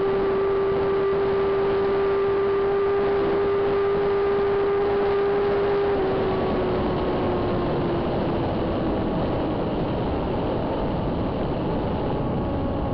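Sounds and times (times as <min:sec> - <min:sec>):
rush of wind noise: 0:00.0 - 0:12.9.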